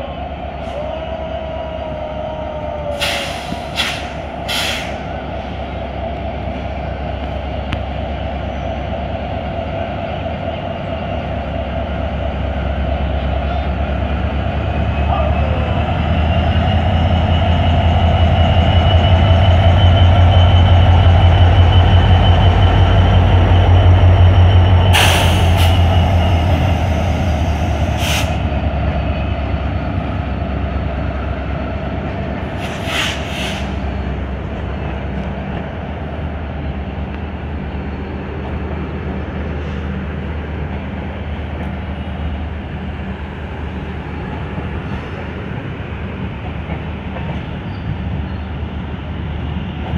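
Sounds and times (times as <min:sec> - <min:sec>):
diesel locomotive engine droning: 0:00.0 - 0:49.9
train coaches rolling past: 0:00.0 - 0:49.9.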